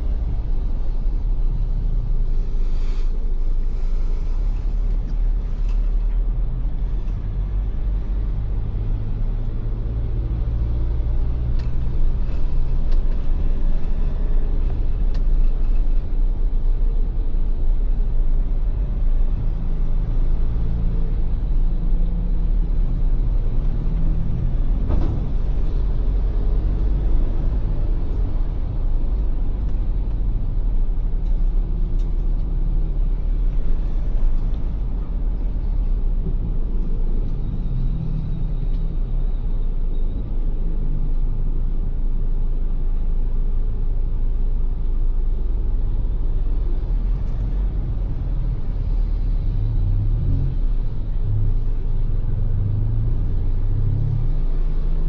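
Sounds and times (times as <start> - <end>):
suv engine and road rumble: 0.0 - 55.0.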